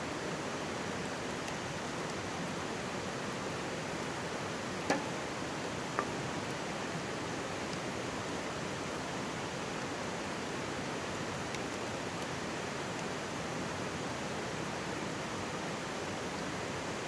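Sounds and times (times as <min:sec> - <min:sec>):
faint campfire crackles: 0:00.0 - 0:17.0
mountain stream rushing: 0:00.0 - 0:17.0.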